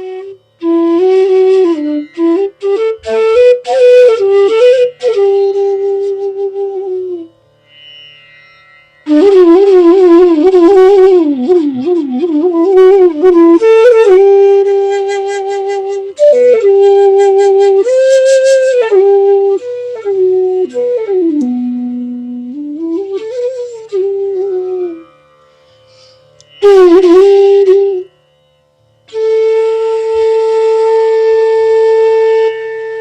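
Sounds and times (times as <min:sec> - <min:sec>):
bamboo flute melody: 0:00.0 - 0:08.1, 0:09.0 - 0:25.8, 0:26.4 - 0:33.0.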